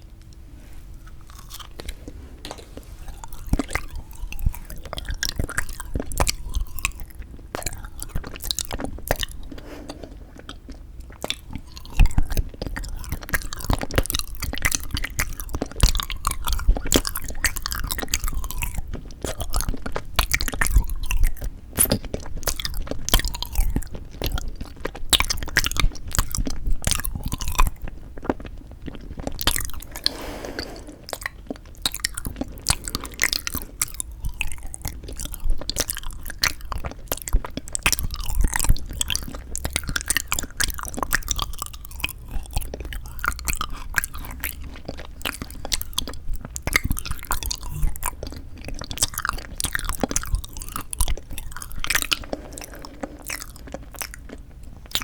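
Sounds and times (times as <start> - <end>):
crisp crackly chewing: 0.0 - 55.0.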